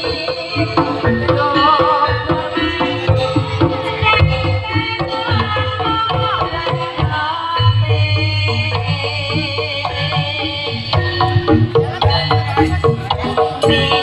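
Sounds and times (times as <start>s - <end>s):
interlocking metallophone tones: 0.0s - 7.0s, 8.0s - 14.0s
hand drums beating: 0.0s - 14.0s.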